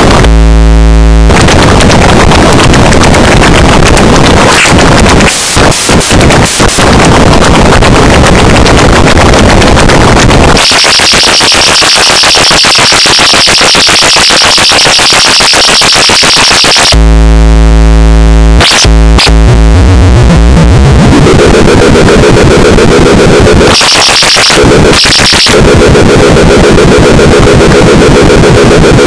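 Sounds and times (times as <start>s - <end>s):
harsh synthesized electronic buzzing: 0.0s - 29.0s.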